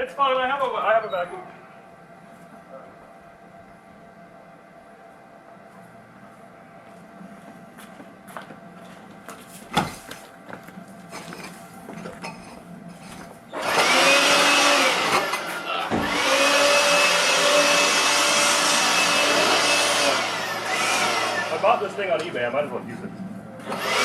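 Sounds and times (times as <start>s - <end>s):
fan motor whine: 0.0s - 24.0s.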